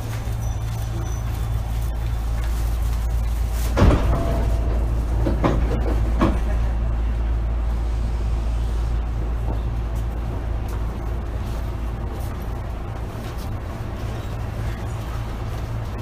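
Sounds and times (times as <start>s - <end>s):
train interior hum: 0.0s - 16.0s.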